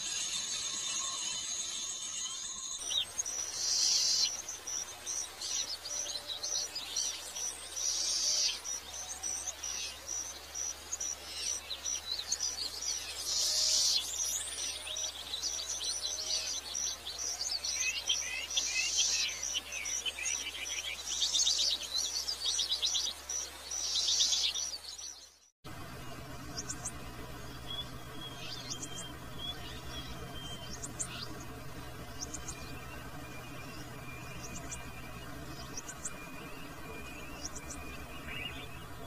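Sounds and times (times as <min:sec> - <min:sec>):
birds calling and trilling: 0:00.0 - 0:39.0.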